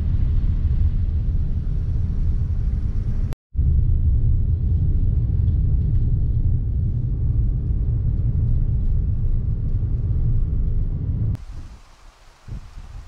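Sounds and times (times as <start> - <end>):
car engine and tyres rumbling: 0.0 - 11.6.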